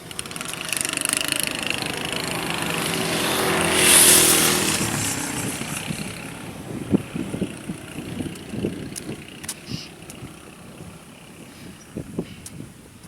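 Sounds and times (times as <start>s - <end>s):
motor vehicle passing by: 0.0s - 12.4s.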